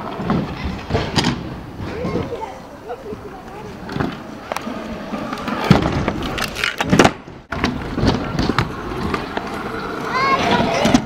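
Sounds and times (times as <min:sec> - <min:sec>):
scooter wheels rolling on concrete: 0:00.0 - 0:11.0.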